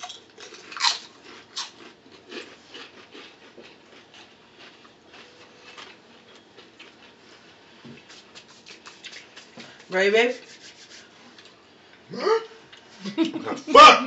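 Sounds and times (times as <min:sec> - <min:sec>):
people eating mouth and breath sounds: 0:00.4 - 0:13.1.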